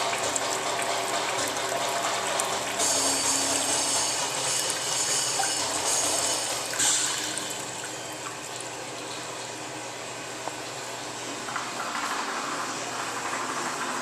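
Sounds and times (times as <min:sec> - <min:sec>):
urinal flushing: 0:00.0 - 0:14.0.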